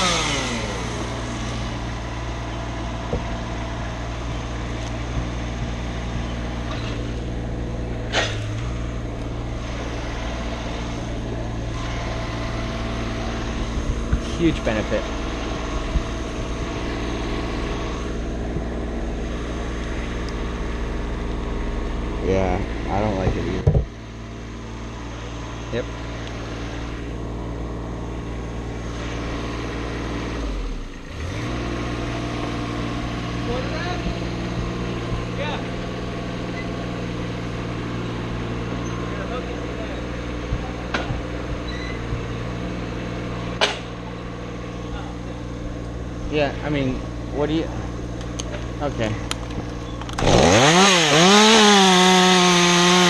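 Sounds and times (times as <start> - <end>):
engine running steadily: 0.0 - 53.0.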